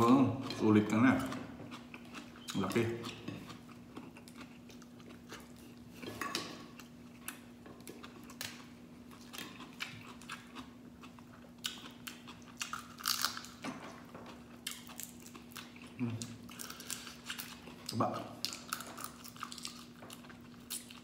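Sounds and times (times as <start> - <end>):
man chewing food: 0.0 - 21.0.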